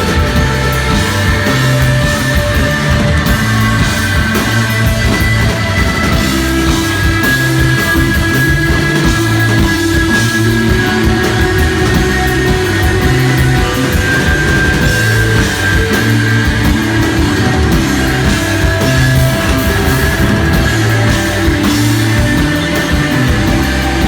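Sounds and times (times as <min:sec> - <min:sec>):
bass line: 0:00.0 - 0:24.0
droning electric guitar: 0:00.0 - 0:24.0
steady drumming: 0:00.0 - 0:24.0.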